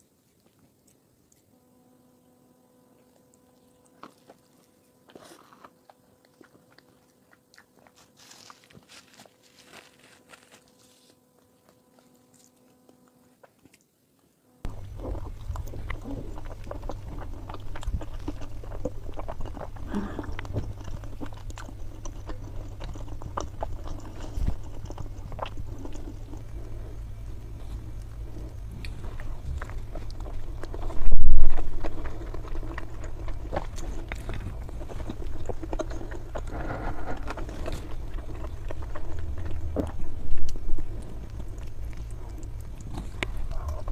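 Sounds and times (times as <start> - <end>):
chewing and biting: 0.0 - 1.6, 2.9 - 14.0, 14.6 - 43.9
low hum: 1.5 - 13.5, 14.4 - 43.9.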